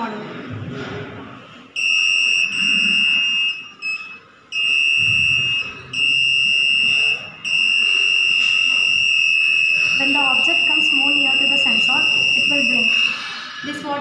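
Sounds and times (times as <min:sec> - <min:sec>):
high-pitched electronic buzzer tone: 0:01.8 - 0:13.3.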